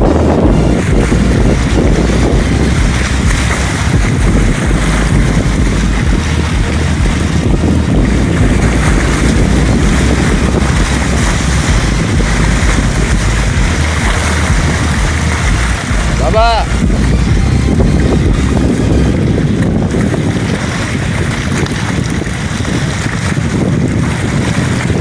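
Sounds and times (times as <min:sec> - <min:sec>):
choppy sea water: 0:00.0 - 0:25.0
constant low rumble: 0:00.0 - 0:25.0
wind on the microphone: 0:00.0 - 0:25.0.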